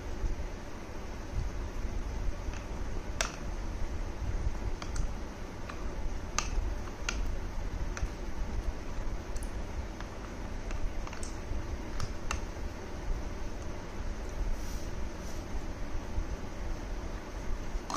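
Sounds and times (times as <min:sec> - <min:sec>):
low steady rumble: 0:00.0 - 0:17.9.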